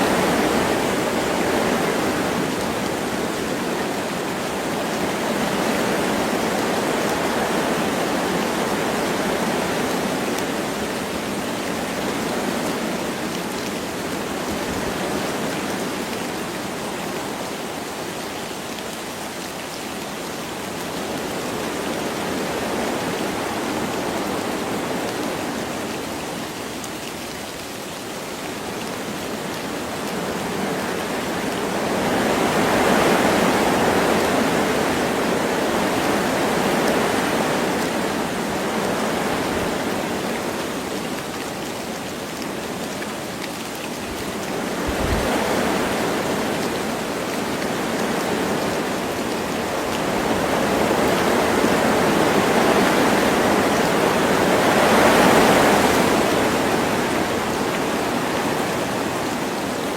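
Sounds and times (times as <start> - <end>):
light rain: 0.0 - 59.9
wind through trees: 0.0 - 59.9.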